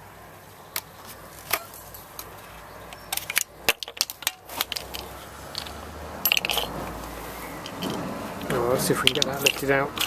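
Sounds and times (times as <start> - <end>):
plastic and metal parts clicking: 1.5 - 10.0.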